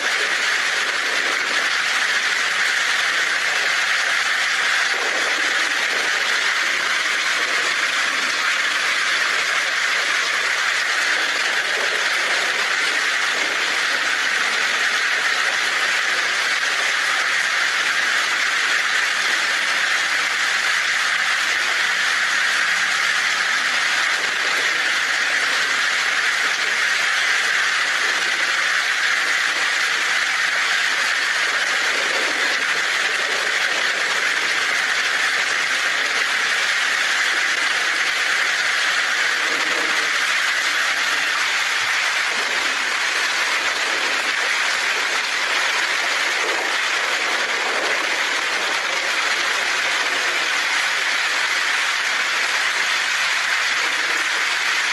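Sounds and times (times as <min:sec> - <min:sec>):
heavy rain on a tin roof: 0:00.0 - 0:54.9.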